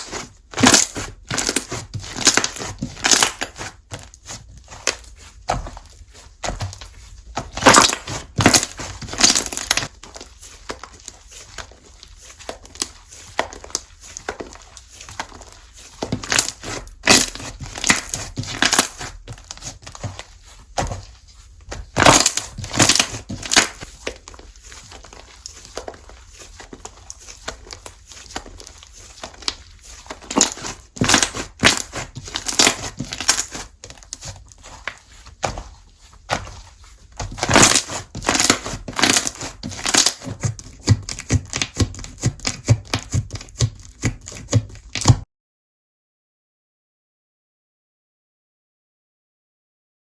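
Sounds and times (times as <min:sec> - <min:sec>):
slime squished by hand: 0:00.0 - 0:45.2.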